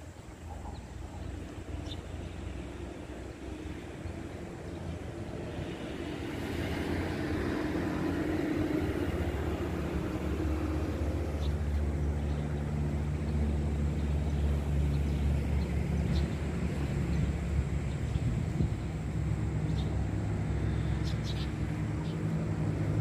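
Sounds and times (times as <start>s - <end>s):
traffic rumble on bridge: 0.0s - 23.0s.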